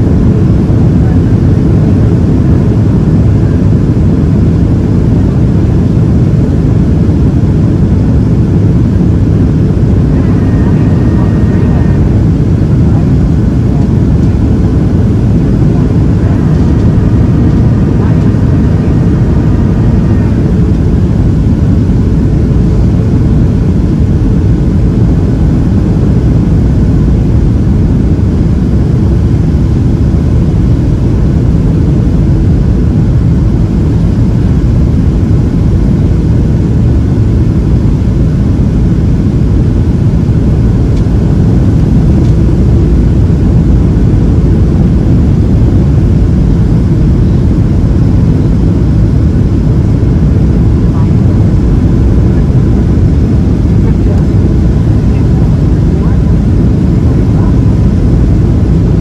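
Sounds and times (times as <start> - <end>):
jet engine cabin rush: 0.3 - 55.2
faint steady higher tones: 1.4 - 53.6.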